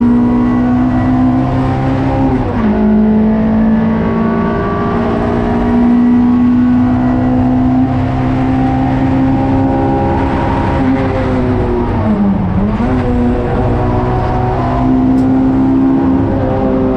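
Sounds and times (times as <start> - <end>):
race car engine accelerating: 0.0 - 16.9.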